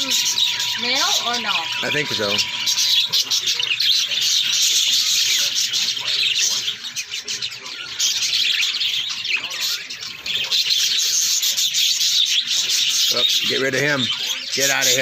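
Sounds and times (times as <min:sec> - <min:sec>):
parakeets chattering: 0:00.0 - 0:15.0.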